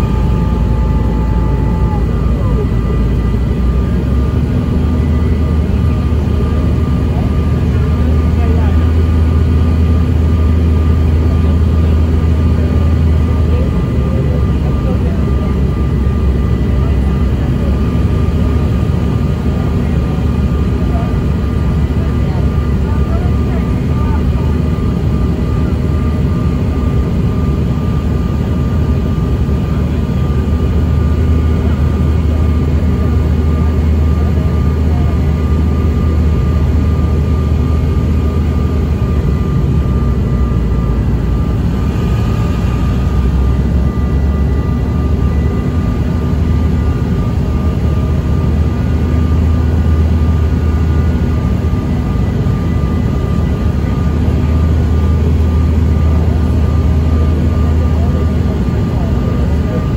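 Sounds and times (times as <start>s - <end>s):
jet cabin low rumble: 0.0s - 59.9s
thin steady whine: 0.0s - 59.9s.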